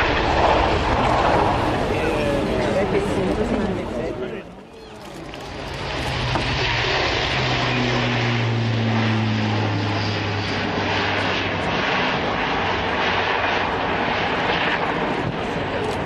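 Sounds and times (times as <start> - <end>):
low propeller hum: 0.0 - 16.0
turboprop aircraft drone: 0.0 - 16.0.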